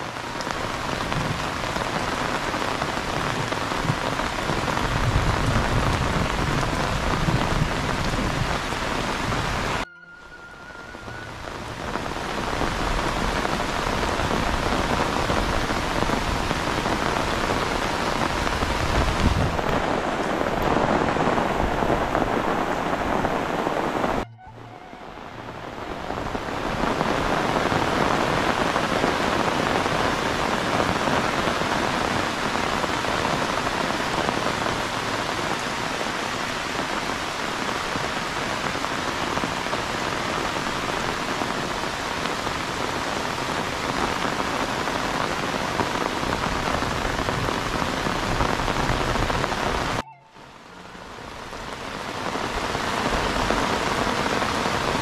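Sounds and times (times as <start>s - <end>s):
heavy rain on water: 0.0s - 55.0s.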